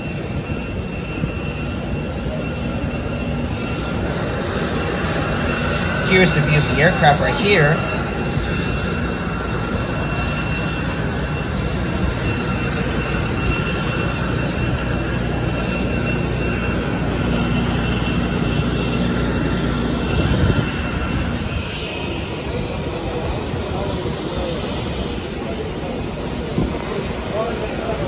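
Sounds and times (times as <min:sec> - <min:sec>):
jet aircraft rumble and whine: 0:00.0 - 0:28.0.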